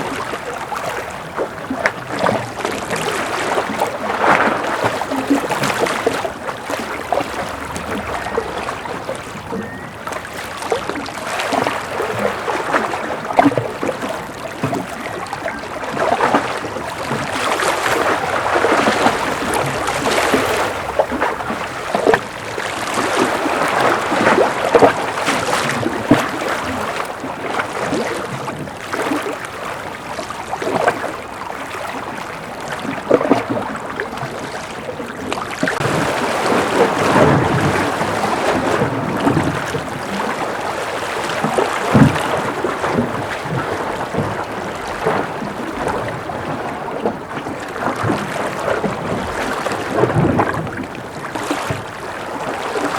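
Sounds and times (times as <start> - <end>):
waves splashing on a breakwater: 0.0 - 52.9.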